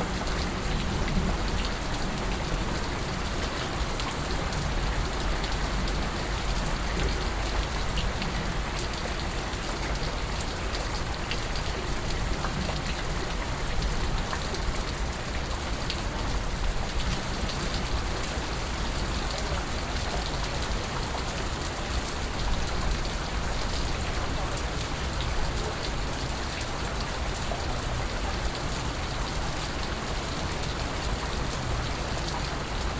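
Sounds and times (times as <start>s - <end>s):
steady rain hiss: 0.0s - 32.9s
raindrops ticking: 0.1s - 30.0s.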